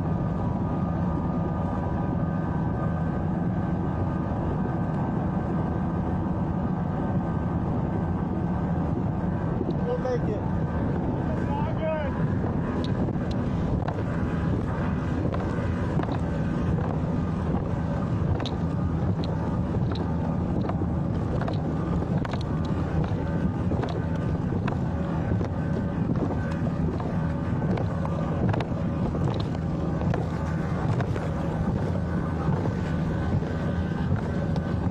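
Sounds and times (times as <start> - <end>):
boat motor running: 0.0 - 34.9
wind on microphone: 0.0 - 34.9.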